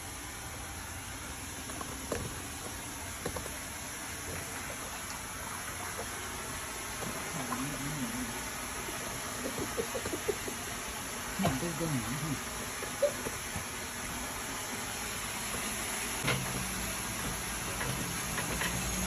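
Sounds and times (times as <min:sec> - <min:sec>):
steady hiss: 0:00.0 - 0:19.0
water sloshing and splashing: 0:01.2 - 0:18.6.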